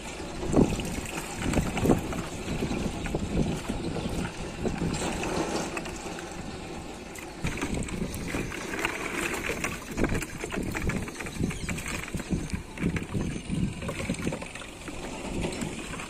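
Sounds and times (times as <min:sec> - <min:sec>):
water sloshing in plastic jar: 0:00.0 - 0:16.0
wind buffeting microphone: 0:00.0 - 0:16.0.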